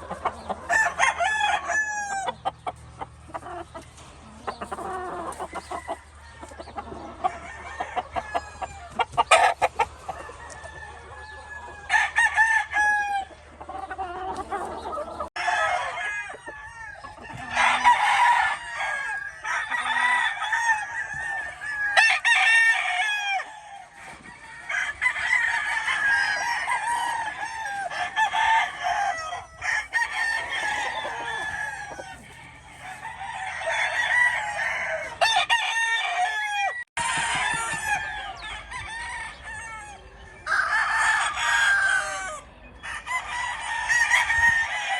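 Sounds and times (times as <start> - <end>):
chickens clucking: 0.0 - 44.9
roosters crowing: 0.0 - 44.9.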